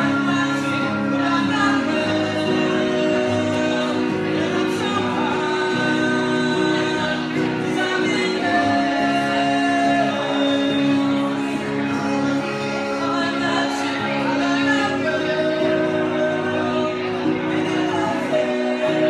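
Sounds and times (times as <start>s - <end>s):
men singing: 0.0s - 19.0s
strummed guitars: 0.0s - 19.0s.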